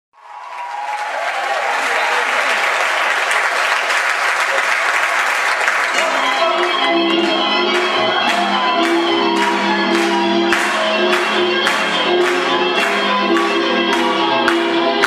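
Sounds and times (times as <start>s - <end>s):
audience applauding: 0.2s - 15.0s.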